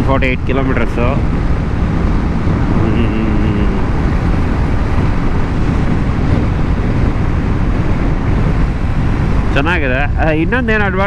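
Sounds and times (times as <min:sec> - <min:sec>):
motorcycle engine: 0:00.0 - 0:11.0
road noise: 0:00.0 - 0:11.0
wind rushing on microphone: 0:00.0 - 0:11.0.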